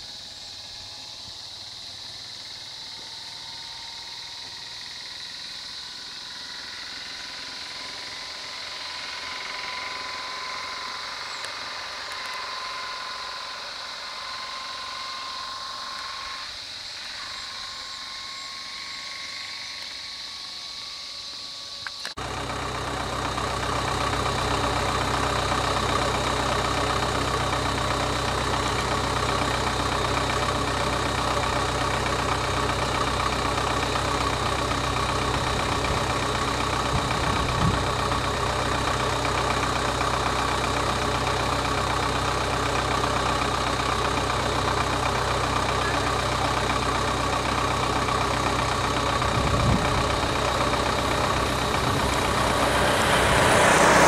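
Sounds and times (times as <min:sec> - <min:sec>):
auto-rickshaw driving by: 0:00.0 - 0:54.0
vehicle engines idling: 0:00.0 - 0:54.0.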